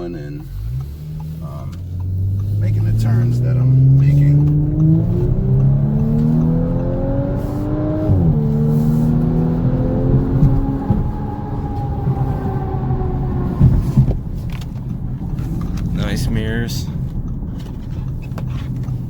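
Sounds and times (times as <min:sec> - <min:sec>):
car engine accelerating hard: 0:00.0 - 0:19.0
road and wind rumble: 0:00.0 - 0:19.0.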